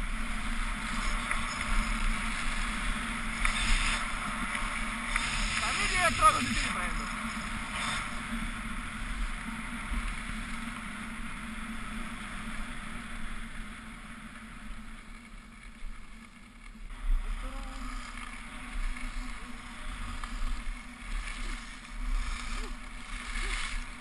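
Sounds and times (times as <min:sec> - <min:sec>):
skis hissing over snow: 0:00.0 - 0:13.4, 0:17.1 - 0:24.0.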